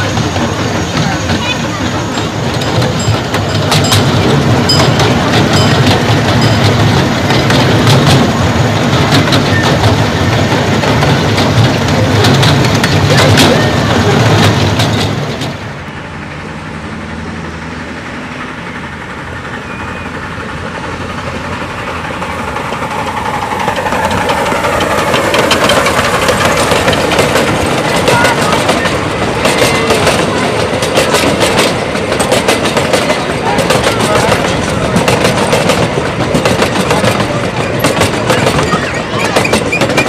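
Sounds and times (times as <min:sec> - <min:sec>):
wheels clicking over rail joints: 0:00.0 - 0:16.5, 0:18.3 - 0:40.0
miniature train rumbling: 0:00.0 - 0:40.0.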